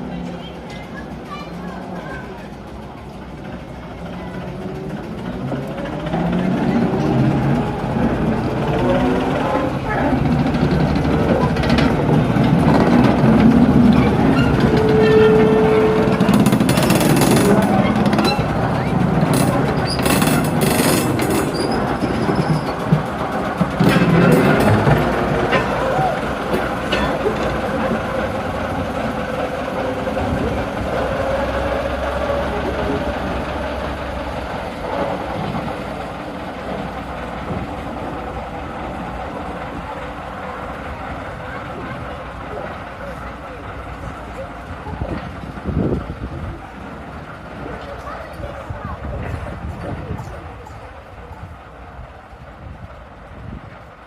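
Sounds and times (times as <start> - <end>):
locomotive low rumble: 0.0 - 54.0.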